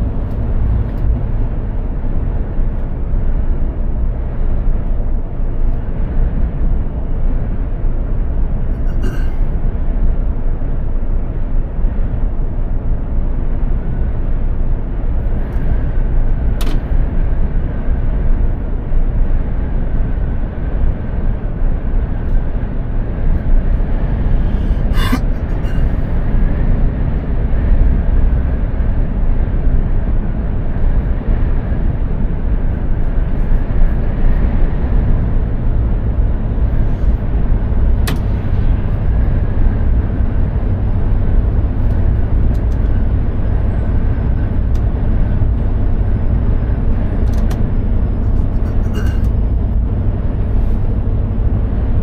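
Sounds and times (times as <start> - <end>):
truck engine and road rumble: 0.0 - 52.0.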